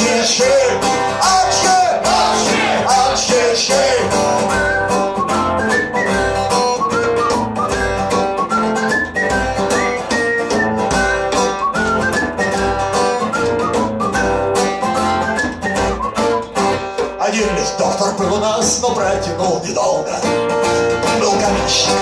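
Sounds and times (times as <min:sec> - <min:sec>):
lead melody with sliding notes: 0:00.0 - 0:19.7
bass: 0:00.0 - 0:22.0
strummed guitar: 0:00.0 - 0:22.0.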